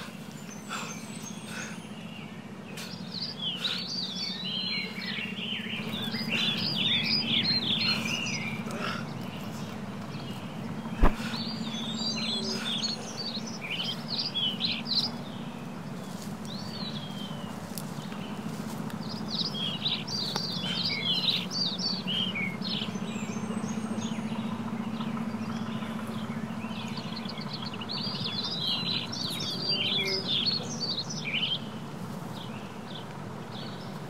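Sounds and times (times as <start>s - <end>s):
songbirds chirping and warbling: 0.0s - 34.0s
steady low hum: 0.0s - 34.0s.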